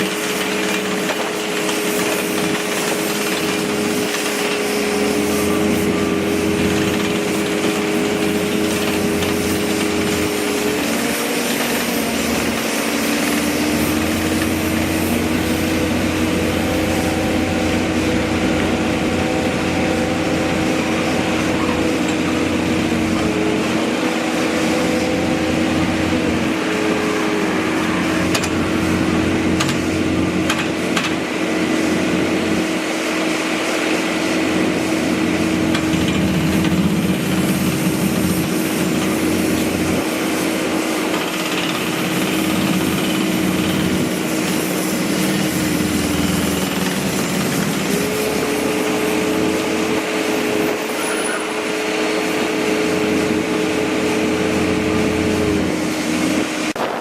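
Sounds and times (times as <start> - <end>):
construction machinery engines: 0.0 - 57.0.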